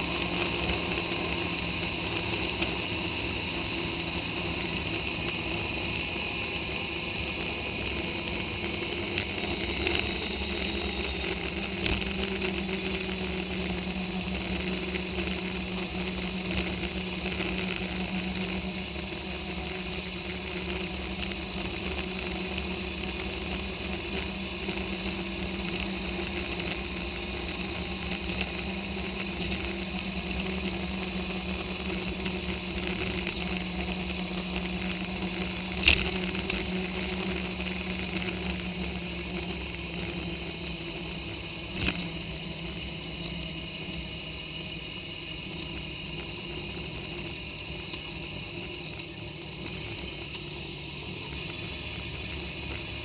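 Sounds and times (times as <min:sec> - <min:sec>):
motorcycle engine cruising: 0:00.0 - 0:53.0
road and wind noise: 0:00.0 - 0:53.0.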